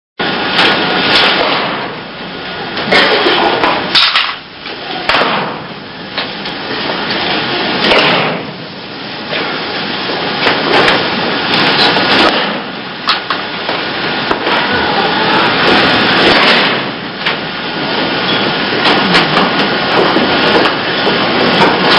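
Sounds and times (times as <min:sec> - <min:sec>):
steady noisy hiss: 0:00.2 - 0:21.9.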